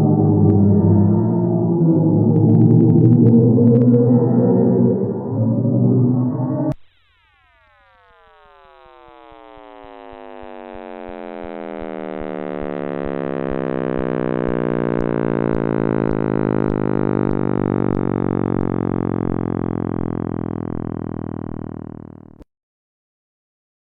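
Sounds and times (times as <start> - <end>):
synthesized tones sliding downward: 0.0 - 22.4.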